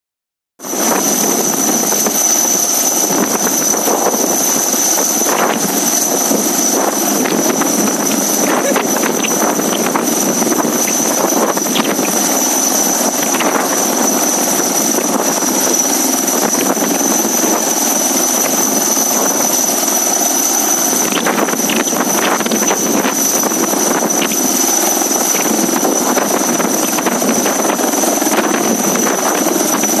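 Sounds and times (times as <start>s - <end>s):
helicopter running: 0.6s - 30.0s.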